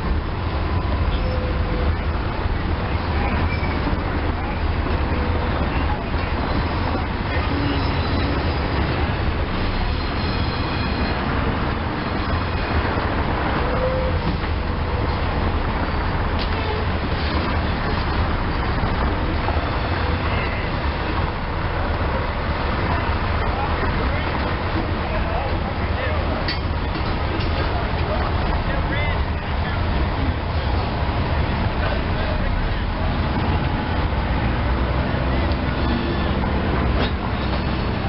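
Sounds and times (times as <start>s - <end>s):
freight train wheels rumbling on rails: 0.0s - 38.0s.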